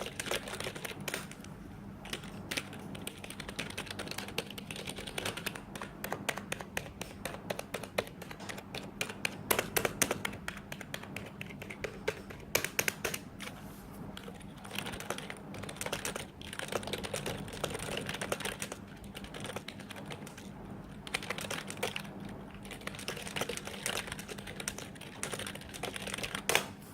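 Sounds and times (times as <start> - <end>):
fast keyboard typing: 0.0 - 26.8.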